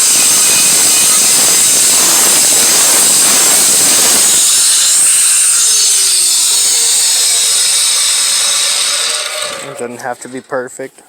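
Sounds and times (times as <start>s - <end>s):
angle grinder grinding metal: 0.0s - 10.9s.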